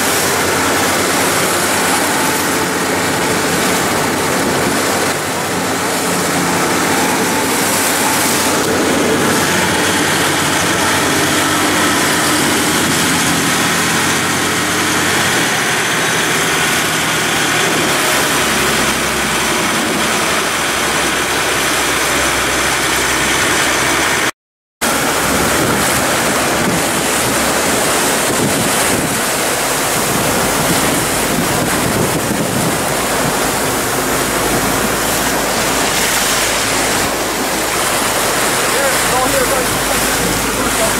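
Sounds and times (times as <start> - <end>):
boat engine running: 0.0 - 40.9
water rushing along hull: 0.0 - 40.9.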